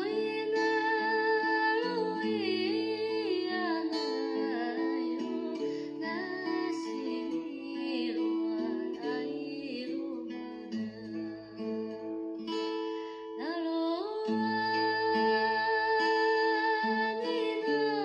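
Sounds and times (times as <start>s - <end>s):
person singing melody: 0.0s - 18.0s
plucked acoustic guitar: 0.0s - 18.0s.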